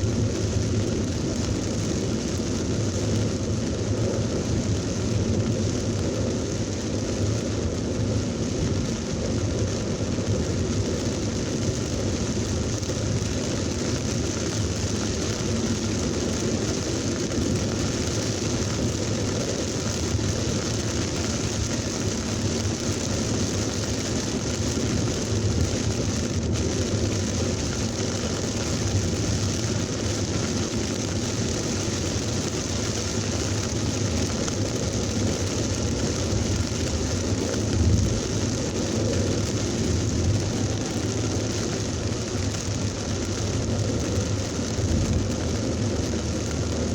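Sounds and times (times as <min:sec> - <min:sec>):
heavy rain hissing: 0:00.0 - 0:46.9
vehicles on wet road: 0:00.0 - 0:46.9.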